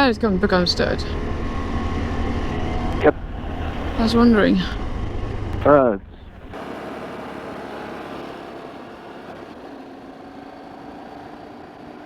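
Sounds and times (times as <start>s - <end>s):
faint motorcycle engine hum: 0.0s - 12.0s
wind and road noise: 0.0s - 12.0s.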